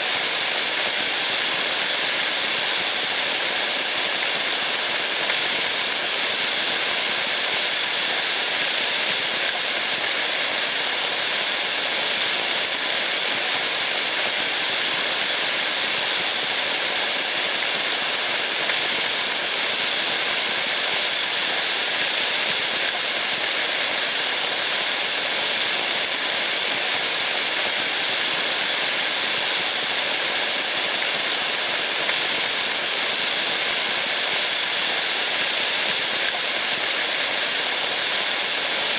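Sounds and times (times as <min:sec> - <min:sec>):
steady rain hiss: 0:00.1 - 0:38.9.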